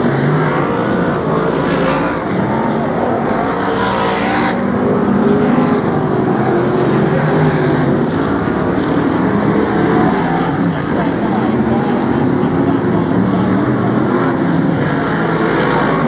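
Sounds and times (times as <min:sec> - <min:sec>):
stock car engines racing: 0:00.0 - 0:16.0.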